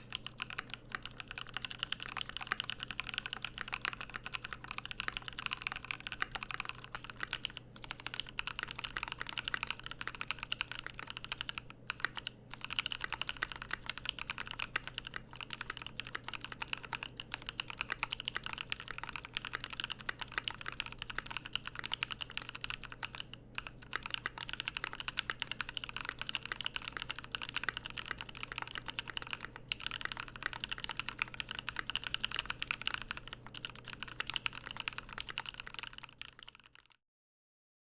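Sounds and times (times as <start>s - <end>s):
typing on mechanical keyboard: 0.0s - 37.0s.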